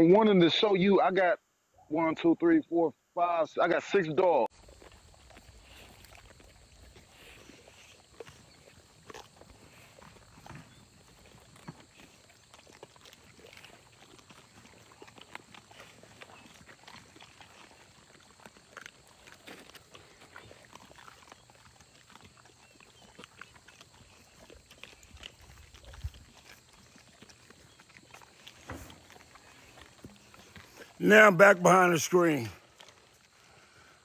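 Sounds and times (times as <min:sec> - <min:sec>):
dogs chewing and crunching: 0:04.5 - 0:34.0.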